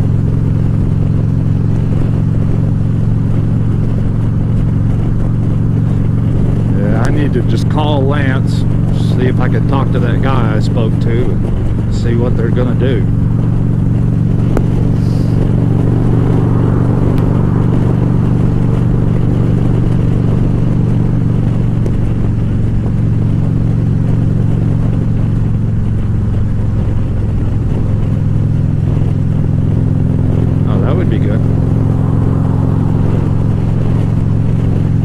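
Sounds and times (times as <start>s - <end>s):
motorcycle engine cruising: 0.0s - 35.0s
road noise: 0.0s - 35.0s
wind noise: 0.0s - 35.0s.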